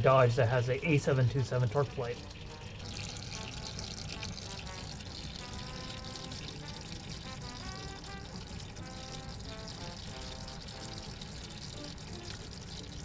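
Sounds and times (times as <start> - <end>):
fluid trickling and splashing: 0.0 - 13.0.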